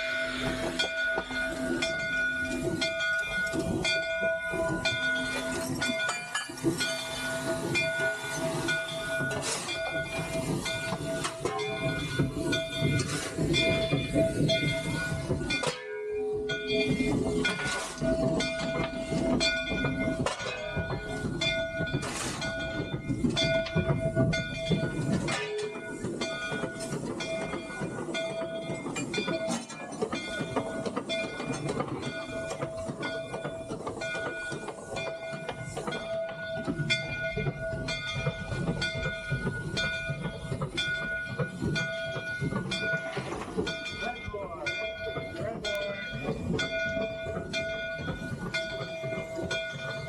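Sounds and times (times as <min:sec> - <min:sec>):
locomotive mechanical clatter: 0:00.0 - 0:50.0.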